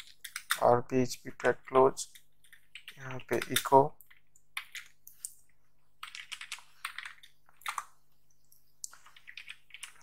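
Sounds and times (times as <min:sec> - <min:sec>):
computer keyboard typing: 0:00.0 - 0:00.7, 0:01.4 - 0:05.4, 0:06.0 - 0:10.0.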